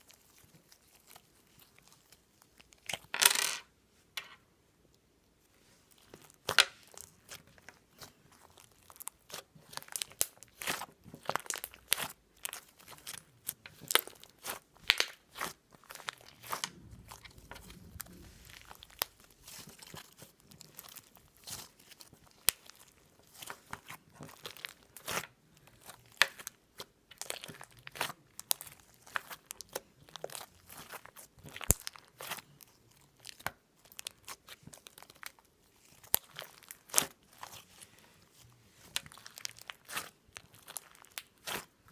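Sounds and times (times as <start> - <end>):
close-up crunching and crackling: 0.0 - 3.2, 5.7 - 41.9.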